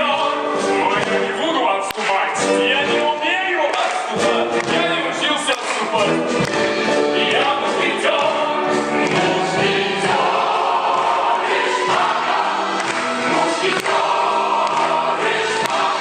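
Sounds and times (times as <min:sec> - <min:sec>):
chorus singing: 0:00.0 - 0:16.0
orchestral accompaniment: 0:00.0 - 0:16.0.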